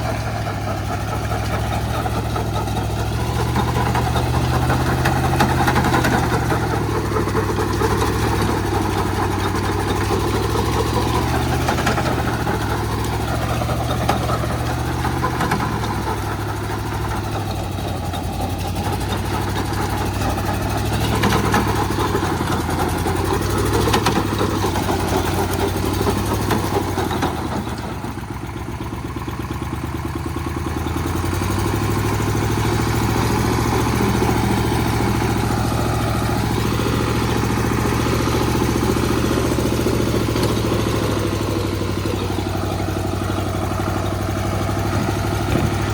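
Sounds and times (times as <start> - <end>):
diesel engine knocking: 0.0 - 45.9.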